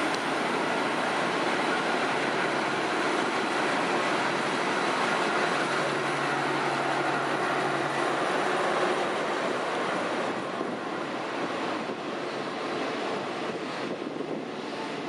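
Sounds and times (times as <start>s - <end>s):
train rumbling past: 0.0s - 15.0s
wind buffeting microphone: 0.0s - 15.0s.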